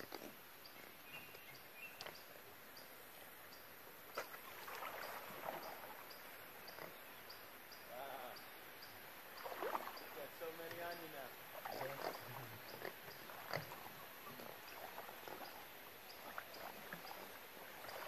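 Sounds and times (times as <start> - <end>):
paddle swishing through water: 0.0 - 7.6, 9.0 - 18.0.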